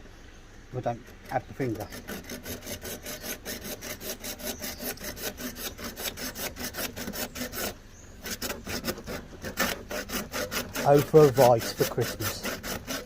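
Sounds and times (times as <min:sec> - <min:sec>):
hand saw sawing: 0:00.8 - 0:13.0.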